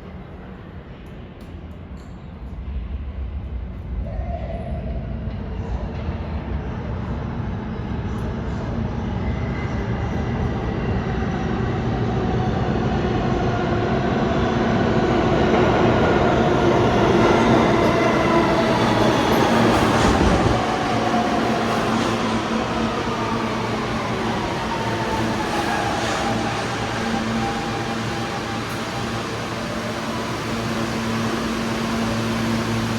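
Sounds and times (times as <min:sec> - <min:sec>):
subway train running: 0:00.0 - 0:32.9.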